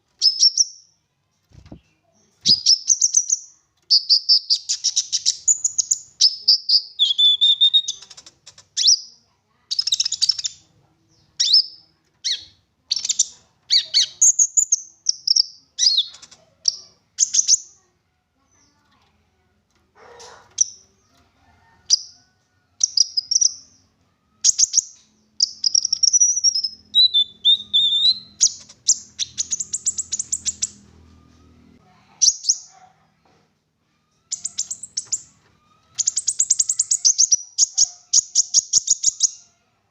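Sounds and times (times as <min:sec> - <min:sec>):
songbird singing: 0:01.6 - 0:17.8, 0:20.0 - 0:32.8, 0:34.1 - 0:39.5.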